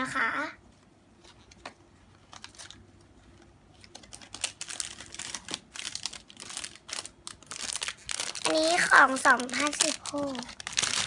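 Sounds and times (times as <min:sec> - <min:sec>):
plastic packaging crinkling: 0:01.2 - 0:11.0.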